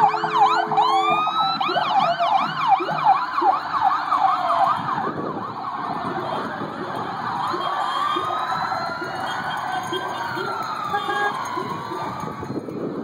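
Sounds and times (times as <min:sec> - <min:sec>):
fire truck siren yelping: 0:00.0 - 0:13.0.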